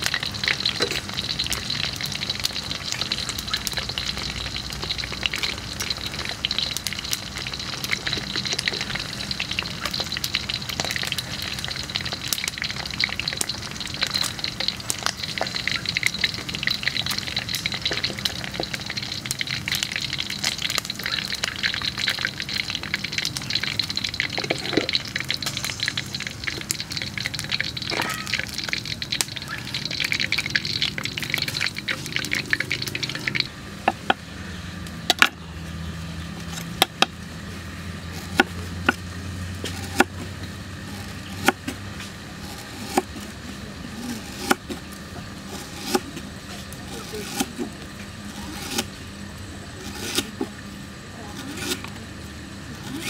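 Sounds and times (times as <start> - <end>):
deep-frying sizzle with pops: 0.0 - 53.0.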